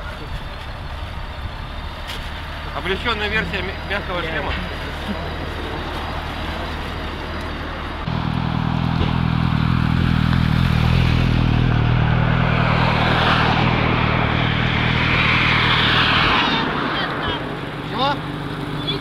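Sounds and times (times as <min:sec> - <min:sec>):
hum of other engines: 0:00.0 - 0:19.0.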